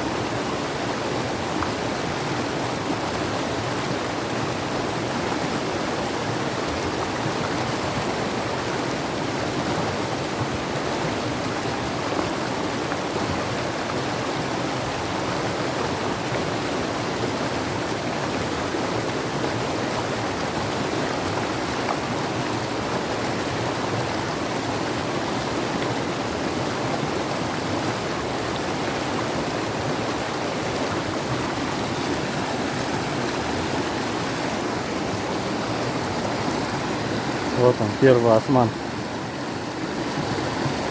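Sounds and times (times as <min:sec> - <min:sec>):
mountain river rushing: 0:00.0 - 0:40.9.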